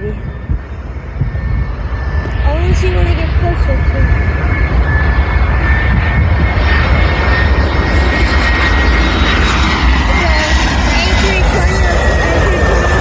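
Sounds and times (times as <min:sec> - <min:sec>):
high jet engine whine: 0:00.0 - 0:13.0
jet engines rumbling: 0:00.0 - 0:13.0.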